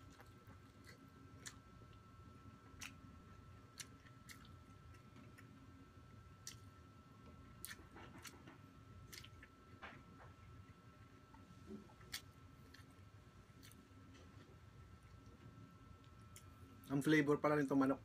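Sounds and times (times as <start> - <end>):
faint chewing: 0.0 - 17.0
faint steady high hum: 0.0 - 18.0.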